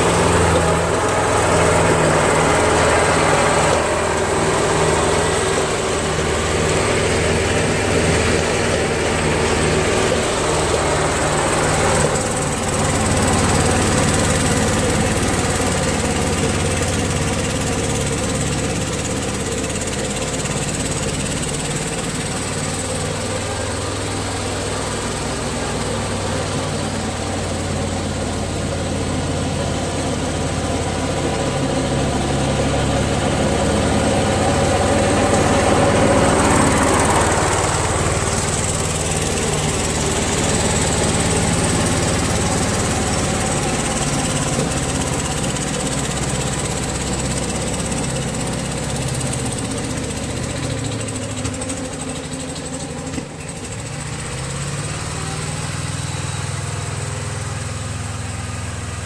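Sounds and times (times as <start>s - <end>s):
riding lawn mower engine: 0.0s - 59.0s.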